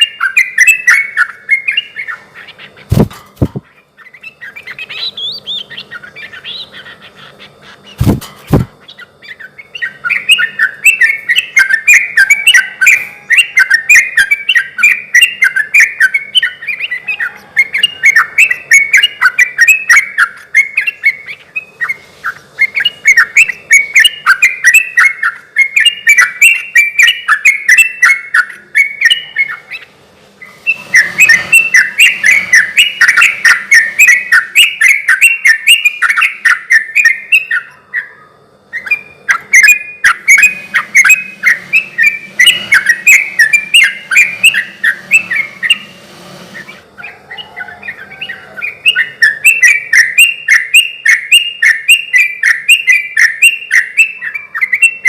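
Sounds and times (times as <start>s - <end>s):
bird singing chattering notes: 0.0s - 55.0s.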